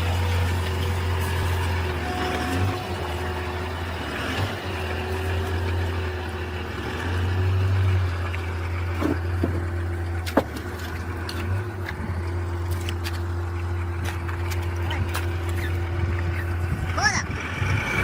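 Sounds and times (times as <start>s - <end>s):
large vehicle engine running: 0.0s - 18.0s.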